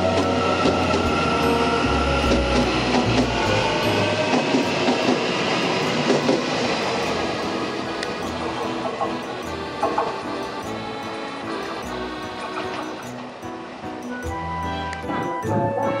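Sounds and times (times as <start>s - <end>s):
wheels clicking on track: 0.0s - 15.6s
train cars rumbling: 0.0s - 16.0s.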